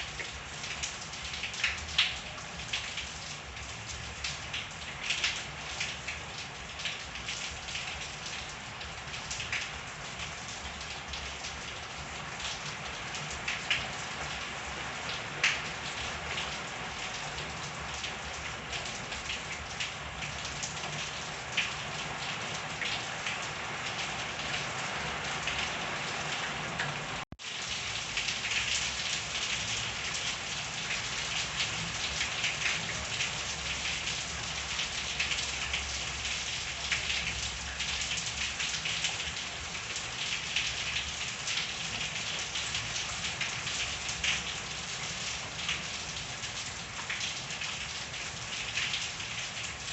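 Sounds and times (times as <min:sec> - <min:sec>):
rain falling: 0:00.0 - 0:49.9
raindrops striking hard surfaces: 0:00.0 - 0:49.9.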